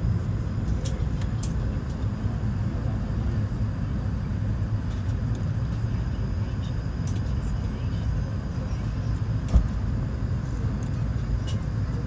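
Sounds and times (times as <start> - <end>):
low rumble in airliner cabin: 0.0 - 12.0.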